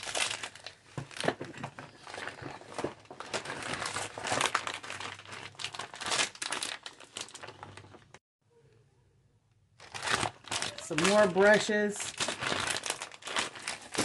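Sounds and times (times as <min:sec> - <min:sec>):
plastic packaging crinkling: 0:00.0 - 0:08.2, 0:09.8 - 0:14.0.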